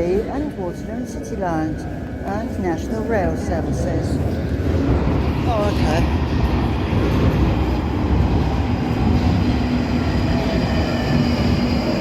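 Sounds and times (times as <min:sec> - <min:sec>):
underground train rumbling in tunnel: 0:00.0 - 0:12.0.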